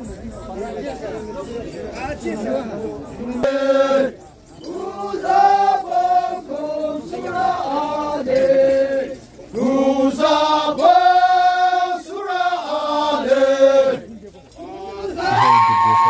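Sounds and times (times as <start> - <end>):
men chanting in unison: 2.4 - 15.5.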